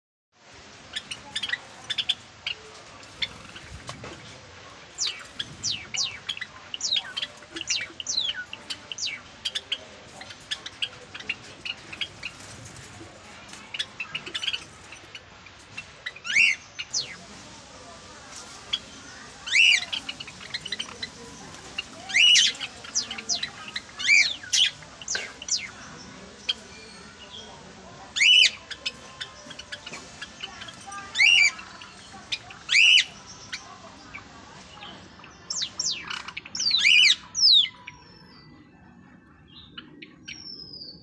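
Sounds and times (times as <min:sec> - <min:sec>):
sparrows chirping: 0:00.7 - 0:41.0.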